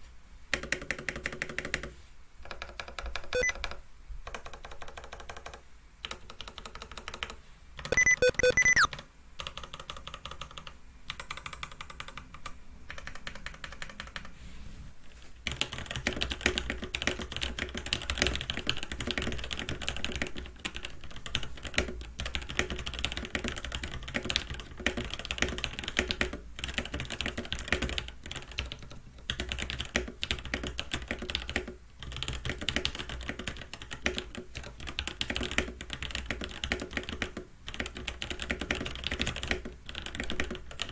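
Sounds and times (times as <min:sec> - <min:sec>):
mechanical keyboard typing: 0:00.5 - 0:14.3, 0:15.4 - 0:40.9.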